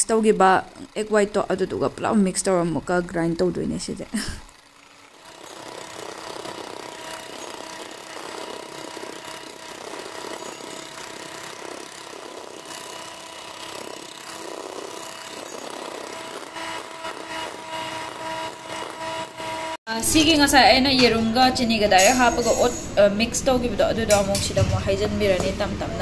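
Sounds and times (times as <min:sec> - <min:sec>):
electric hand mixer whining: 0:00.0 - 0:24.2.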